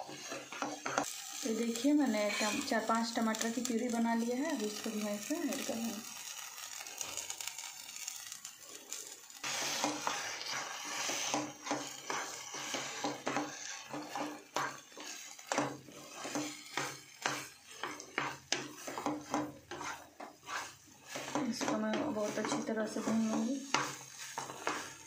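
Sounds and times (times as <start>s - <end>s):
frying sizzle: 0.0s - 25.0s
spatula scraping a pan: 0.0s - 25.0s.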